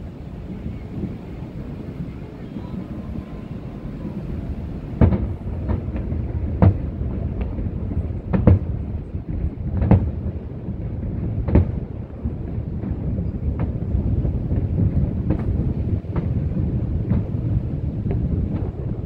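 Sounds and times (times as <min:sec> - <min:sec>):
low continuous rumble: 0:00.0 - 0:19.0.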